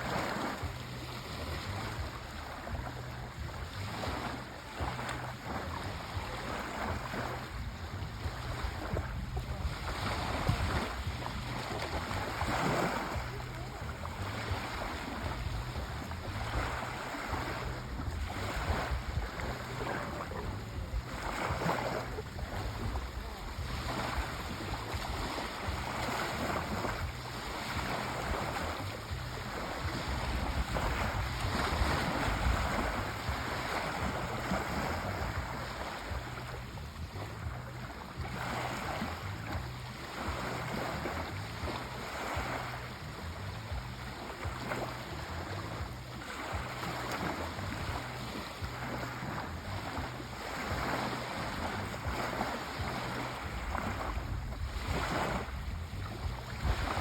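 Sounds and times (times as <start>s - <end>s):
sea waves breaking: 0.0s - 57.0s
steady low rumble: 0.0s - 57.0s.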